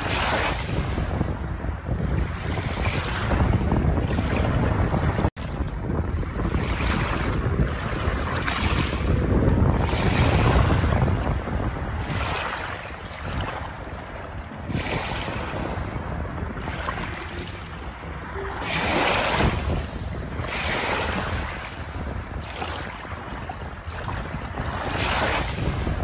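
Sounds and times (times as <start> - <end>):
waves washing over pebbles: 0.0 - 26.0
wind buffeting microphone: 0.0 - 26.0.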